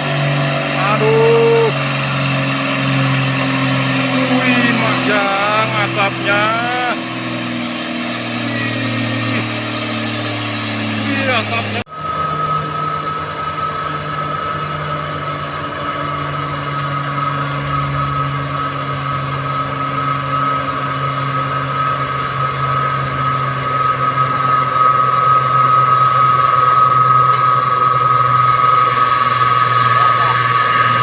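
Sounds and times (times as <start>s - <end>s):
diesel truck engine running: 0.0s - 31.0s
high whine: 0.0s - 31.0s.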